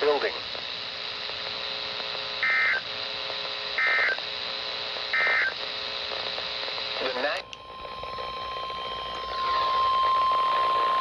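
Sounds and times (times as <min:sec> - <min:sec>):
radio hiss: 0:00.0 - 0:08.4, 0:09.2 - 0:11.0
faint hum: 0:00.0 - 0:11.0.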